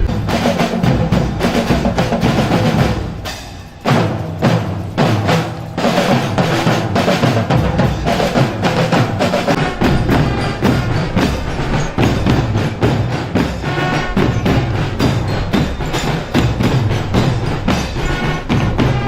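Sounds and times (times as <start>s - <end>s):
drum percussion music: 0.0s - 19.0s.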